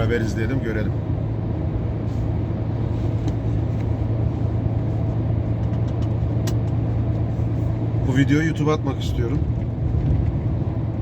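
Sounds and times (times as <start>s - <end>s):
diesel engine droning in cab: 0.0s - 11.0s.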